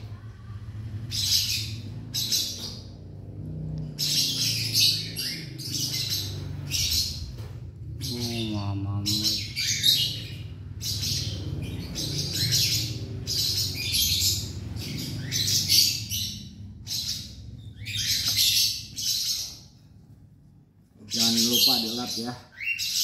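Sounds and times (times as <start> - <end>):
steady low hum: 0.0 - 21.5
squirrel squeaking and chirping: 1.0 - 19.8, 21.1 - 23.0.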